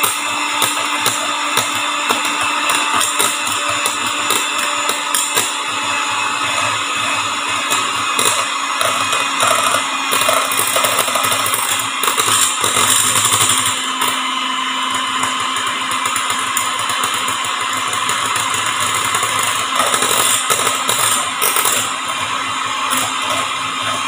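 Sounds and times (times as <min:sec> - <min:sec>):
electric hand mixer whipping: 0:00.0 - 0:24.0.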